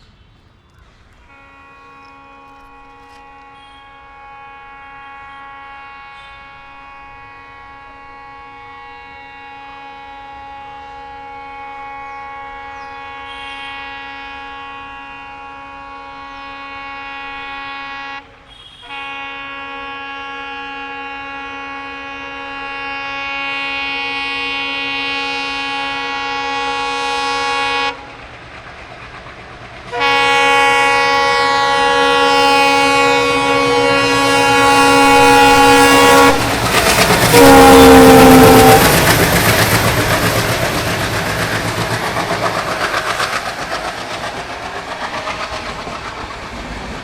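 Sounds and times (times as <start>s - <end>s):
diesel locomotive horn: 1.2s - 28.3s, 29.9s - 44.2s.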